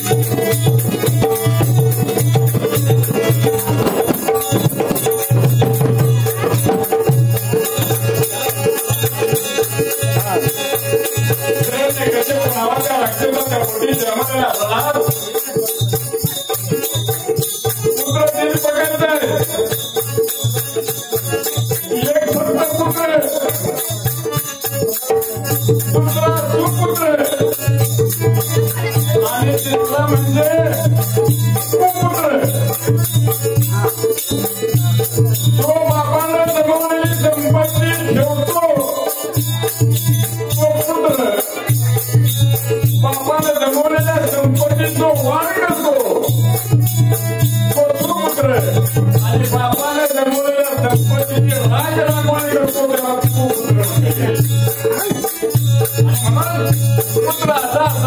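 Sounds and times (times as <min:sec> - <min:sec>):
rapid rattling percussion: 0:00.0 - 0:58.0.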